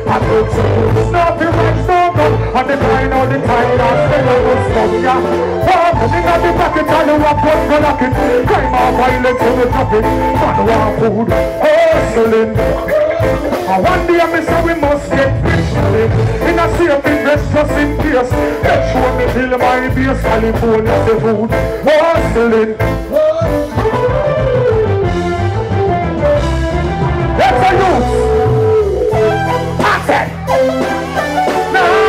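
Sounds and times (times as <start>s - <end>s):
man singing into a microphone: 0.0s - 24.8s, 27.4s - 30.4s, 31.5s - 32.0s
reggae band playing: 0.0s - 32.0s.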